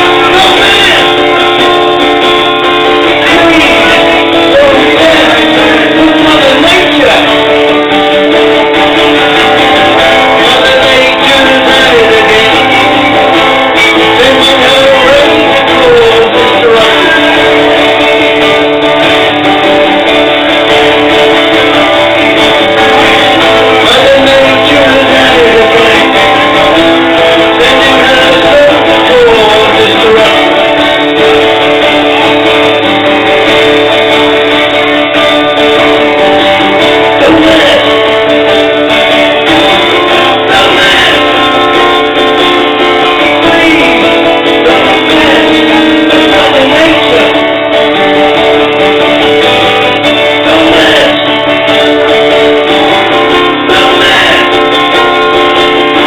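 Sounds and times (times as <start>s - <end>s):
live guitar music: 0.0s - 56.0s.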